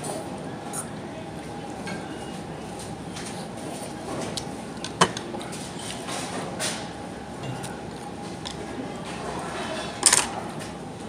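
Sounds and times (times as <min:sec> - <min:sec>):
restaurant background: 0:00.0 - 0:11.0.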